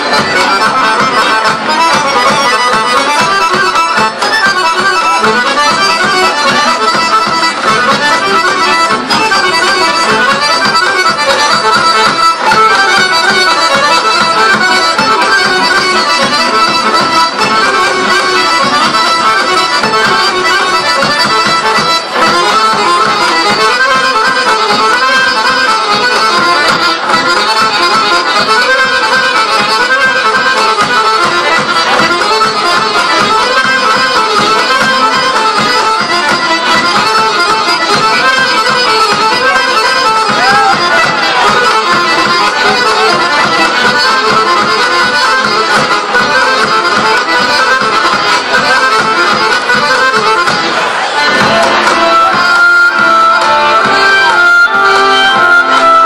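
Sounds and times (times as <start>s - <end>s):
folk dance music: 0.0s - 56.0s.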